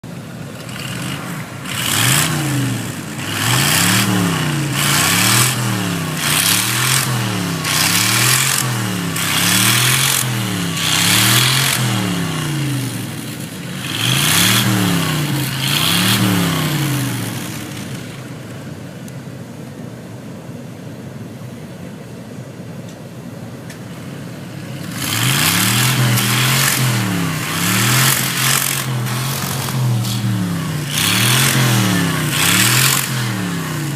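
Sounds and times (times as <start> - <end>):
truck engine revving: 0.0 - 18.9, 24.3 - 33.9
spinning tyres hissing: 0.0 - 20.8, 23.3 - 33.9.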